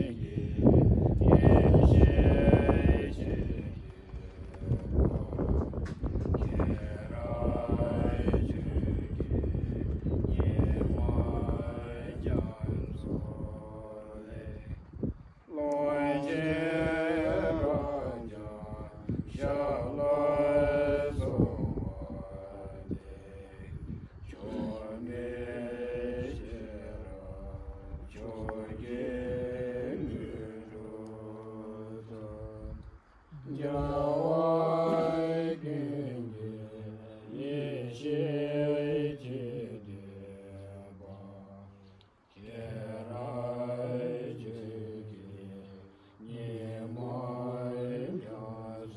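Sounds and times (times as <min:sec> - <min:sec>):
monks chanting: 0:00.0 - 0:48.9.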